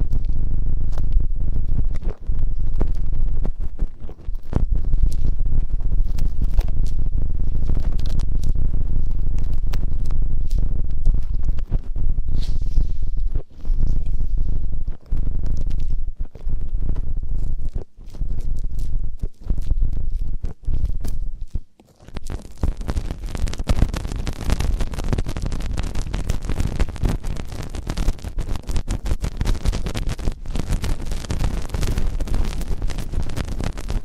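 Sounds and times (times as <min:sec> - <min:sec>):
crackly scratching on microphone: 0:00.0 - 0:34.0
rubbing on microphone: 0:00.0 - 0:34.0.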